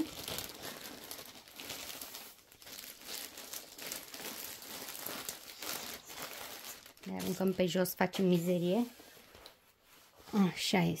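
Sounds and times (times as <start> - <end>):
plastic sleeve crinkling: 0.0 - 11.0.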